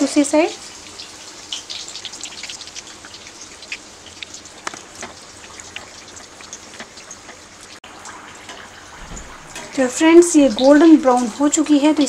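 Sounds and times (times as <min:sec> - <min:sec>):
oil crackling sizzle: 0:00.0 - 0:12.0.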